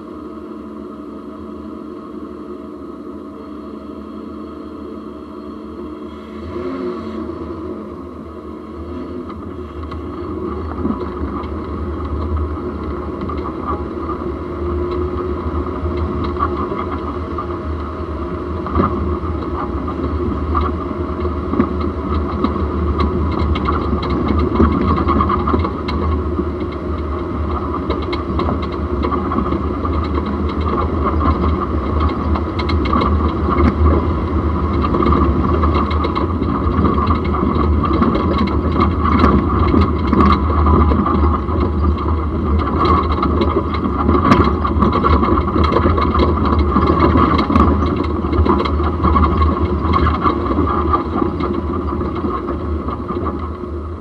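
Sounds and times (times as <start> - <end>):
tyres and running gear rumbling: 5.0 - 54.0
small knocks and rattles: 9.3 - 17.8, 18.6 - 53.7.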